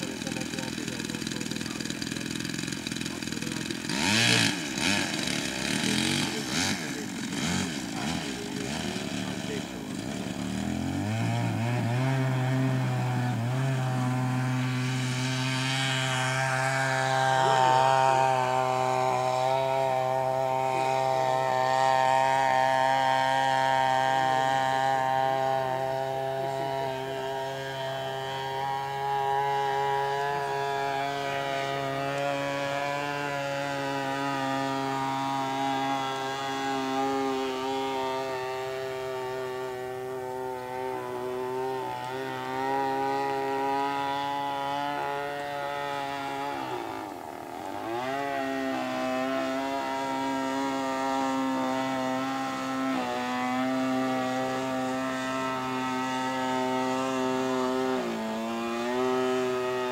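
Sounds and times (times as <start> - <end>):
model plane engine buzzing: 0.0 - 59.9.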